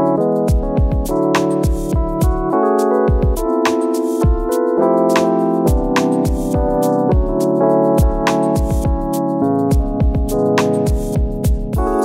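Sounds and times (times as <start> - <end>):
held keyboard chords: 0.0 - 12.0
electronic kick drum beat: 0.4 - 12.0.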